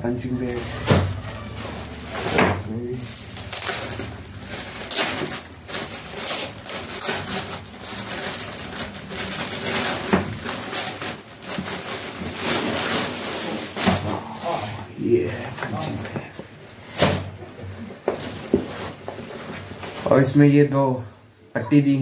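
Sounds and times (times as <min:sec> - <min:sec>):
plastic packaging rustling: 0:00.2 - 0:20.3.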